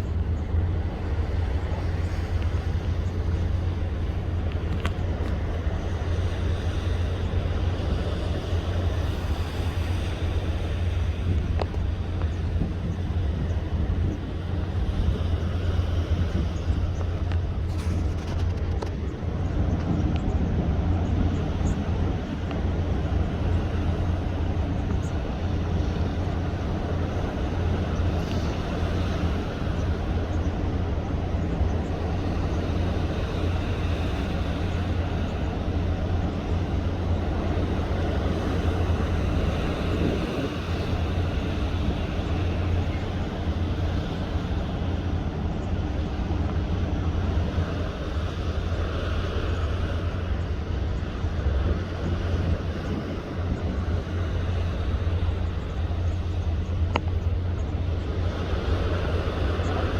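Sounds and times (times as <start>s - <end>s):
boat engine droning: 0.0s - 59.9s
wind and water rushing: 0.0s - 59.9s.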